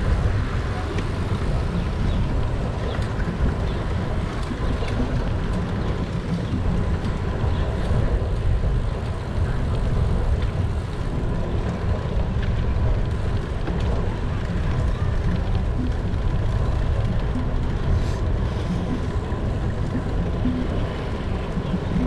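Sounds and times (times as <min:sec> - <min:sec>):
city traffic noise: 0:00.0 - 0:22.0
wind rumbling on microphone: 0:00.0 - 0:22.0.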